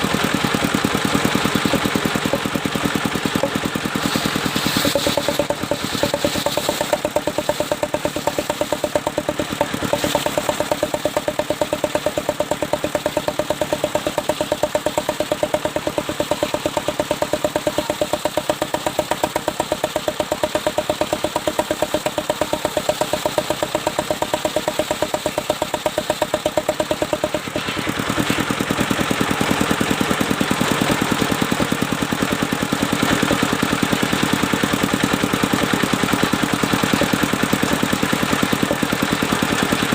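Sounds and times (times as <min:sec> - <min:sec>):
sawmill engine pulsing: 0:00.0 - 0:39.9.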